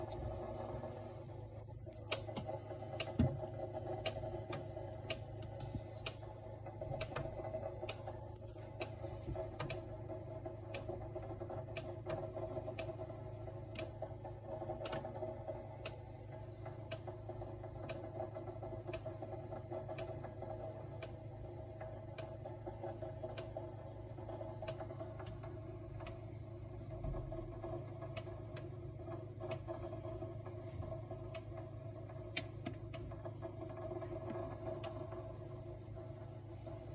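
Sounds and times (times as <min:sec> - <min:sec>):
refrigerator humming: 0:00.0 - 0:36.9.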